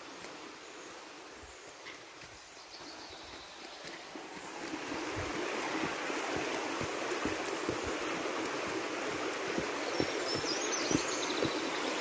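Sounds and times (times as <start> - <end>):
river rushing: 0.0 - 12.0
footsteps on dirt path: 1.8 - 12.0.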